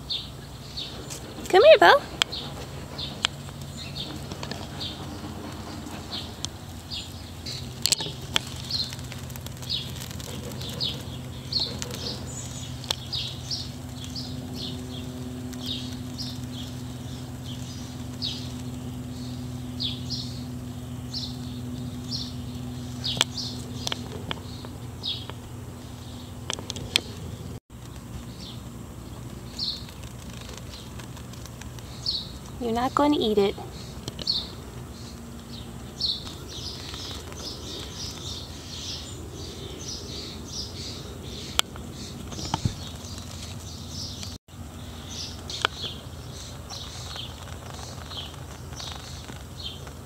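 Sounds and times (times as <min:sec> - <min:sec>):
bird chirping: 0:00.0 - 0:50.0
steady low hum: 0:00.0 - 0:50.0.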